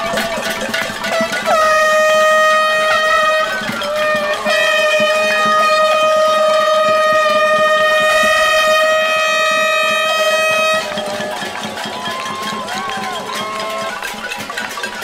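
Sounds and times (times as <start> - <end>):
horn long steady note: 0.0 - 14.7.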